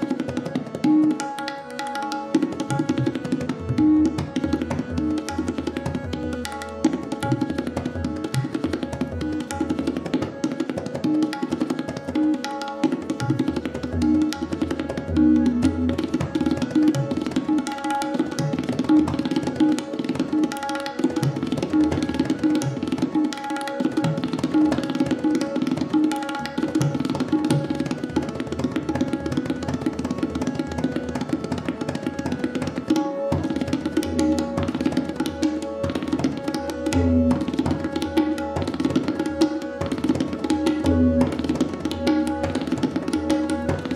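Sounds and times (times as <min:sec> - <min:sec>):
harmonium melody: 0:00.0 - 0:43.9
tabla drumming: 0:00.0 - 0:43.9.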